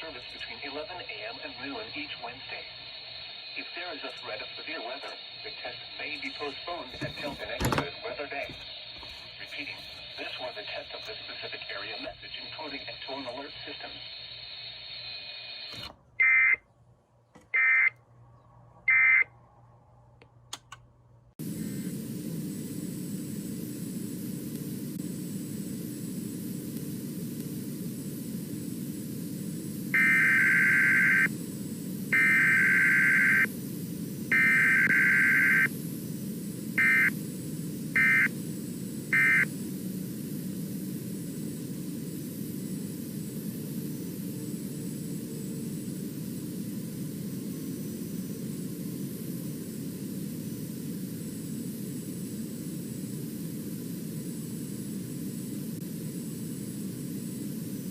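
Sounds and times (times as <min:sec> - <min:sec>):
radio static hiss: 0:00.0 - 0:16.6, 0:21.4 - 0:57.9
data burst tones: 0:01.2 - 0:16.6, 0:18.9 - 0:19.2, 0:26.2 - 0:57.9.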